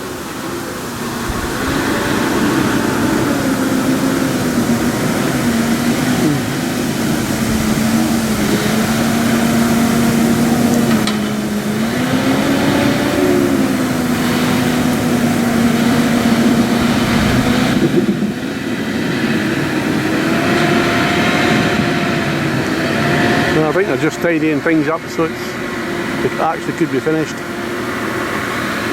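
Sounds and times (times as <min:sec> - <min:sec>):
tractor engine running under load: 0:00.0 - 0:28.9.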